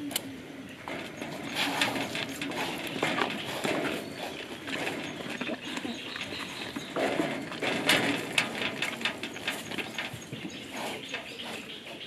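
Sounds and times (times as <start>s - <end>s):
deer chewing: 0.8s - 12.0s.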